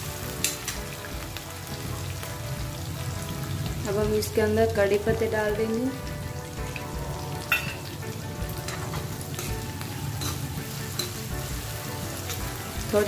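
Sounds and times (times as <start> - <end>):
leaves sizzling in hot oil: 0.0 - 13.0.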